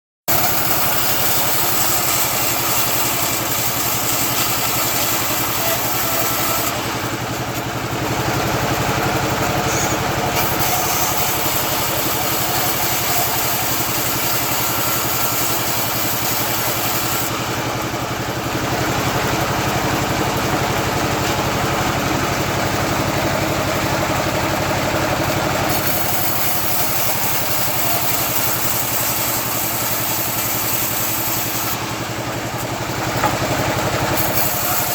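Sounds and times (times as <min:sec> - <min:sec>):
bandsaw sawmill sawing wood: 0:00.3 - 0:34.9.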